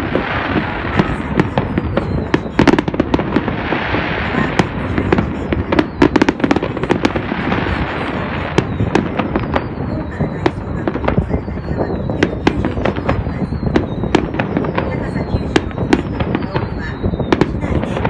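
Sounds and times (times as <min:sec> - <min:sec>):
crackling rumble: 0:00.0 - 0:18.0
fireworks cracking and popping: 0:00.0 - 0:18.0.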